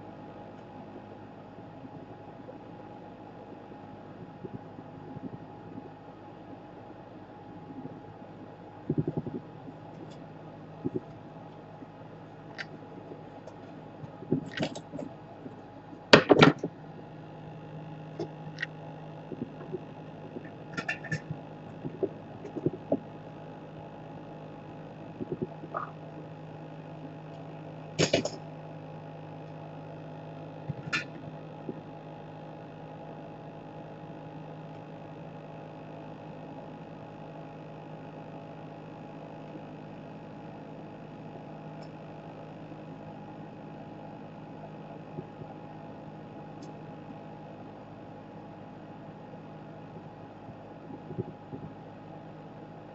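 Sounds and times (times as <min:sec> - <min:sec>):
electrical hum: 0:00.0 - 0:52.9.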